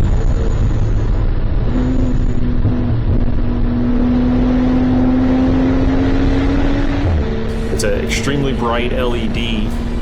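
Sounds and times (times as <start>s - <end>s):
race car engine: 0.0s - 10.0s
road and wind noise: 0.0s - 10.0s.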